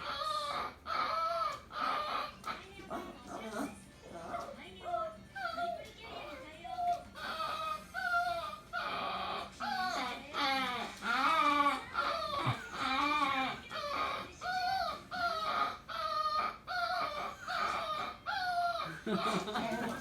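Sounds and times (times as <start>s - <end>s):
dog crying: 0.0s - 20.0s.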